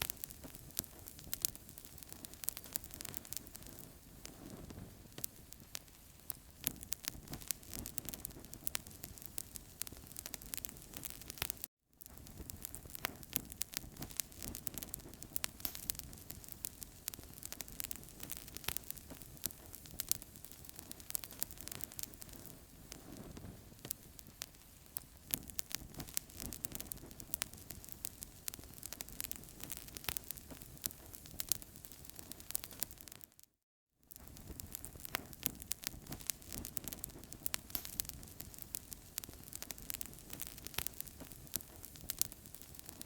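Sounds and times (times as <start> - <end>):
wood fire crackling: 0.0 - 33.4, 34.1 - 43.0.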